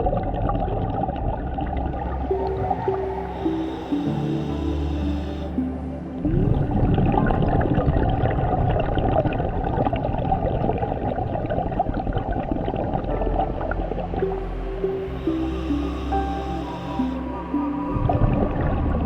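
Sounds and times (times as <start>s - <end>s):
underwater bubbling and gurgling: 0.0s - 19.0s.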